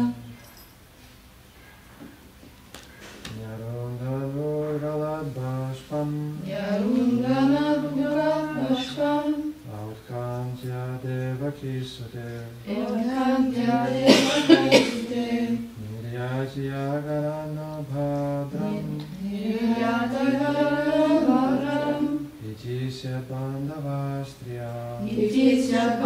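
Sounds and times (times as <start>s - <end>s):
voices chanting a verse: 3.3s - 26.0s.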